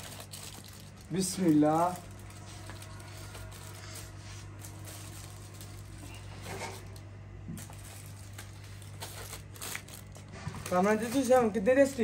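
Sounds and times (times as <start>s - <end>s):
foil packets crinkling: 0.0s - 12.0s
steady low hum: 0.0s - 12.0s.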